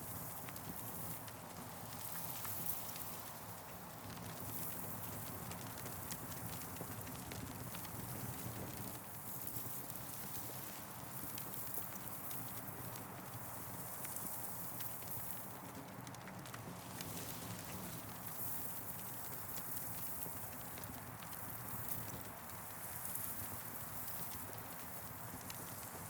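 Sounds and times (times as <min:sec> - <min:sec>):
campfire crackling and popping: 0:00.1 - 0:26.0.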